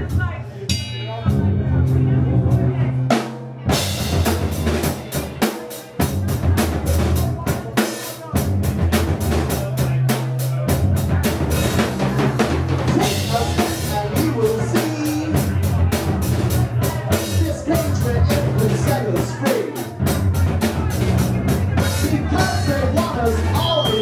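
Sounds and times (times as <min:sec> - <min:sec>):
bass guitar: 0:00.0 - 0:24.0
drum kit fast beat: 0:00.0 - 0:24.0.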